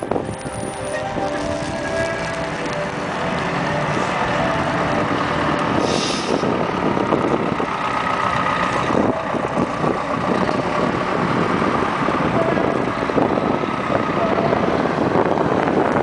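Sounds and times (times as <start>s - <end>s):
continuous rushing noise: 0.0s - 16.0s
motor vehicle running: 0.0s - 16.0s.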